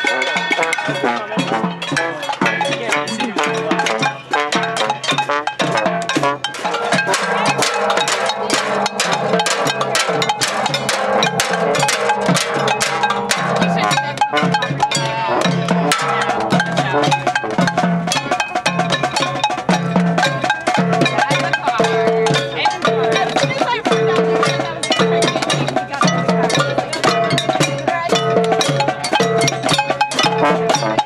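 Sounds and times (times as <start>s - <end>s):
drum strikes: 0.0s - 31.0s
music with held notes: 0.0s - 31.0s
wood block and cowbell clanks: 0.0s - 31.0s.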